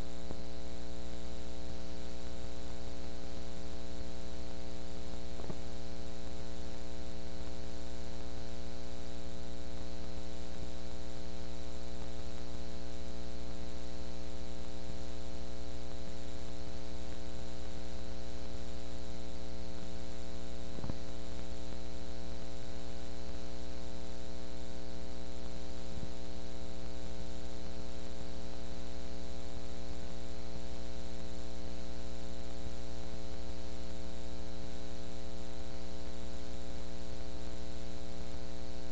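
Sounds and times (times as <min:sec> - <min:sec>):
constant hiss: 0:00.0 - 0:38.9
electrical mains hum: 0:00.0 - 0:38.9.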